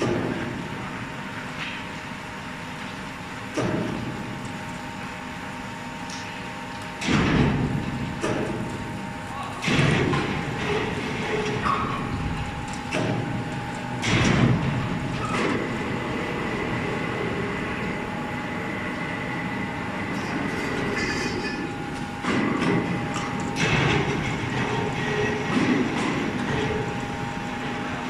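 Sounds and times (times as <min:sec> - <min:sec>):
machinery hum with whine: 0:00.0 - 0:28.0.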